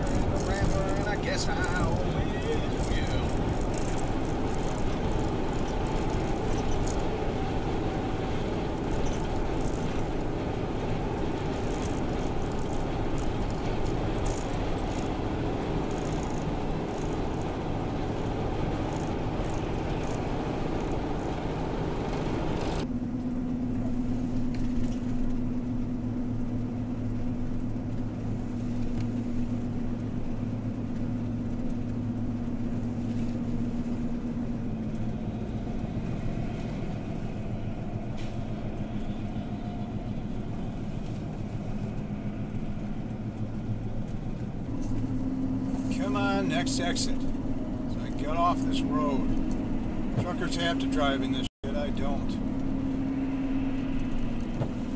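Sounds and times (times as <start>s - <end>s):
van engine and road noise: 0.0s - 54.9s.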